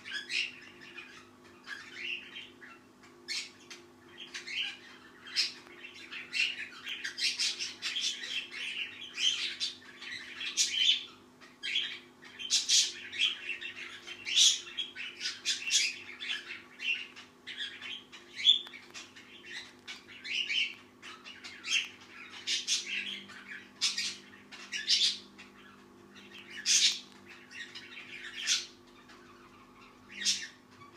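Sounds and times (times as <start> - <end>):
bird crackling chirps: 0.0 - 30.9.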